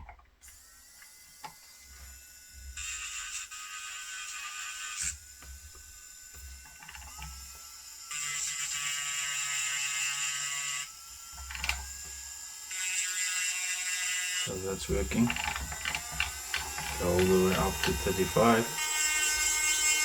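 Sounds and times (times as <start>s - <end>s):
electric nail drill whining: 0.4s - 20.0s.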